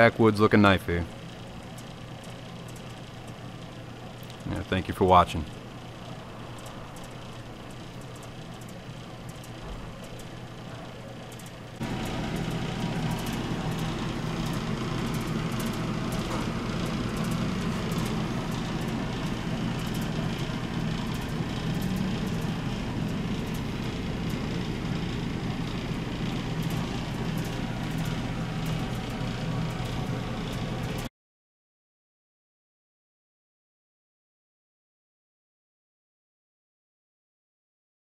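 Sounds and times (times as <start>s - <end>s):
low mechanical hum: 0.0s - 31.1s.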